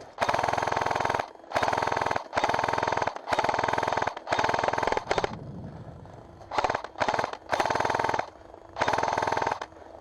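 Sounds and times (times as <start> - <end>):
airsoft gun firing bursts: 0.0 - 5.4, 6.5 - 9.7.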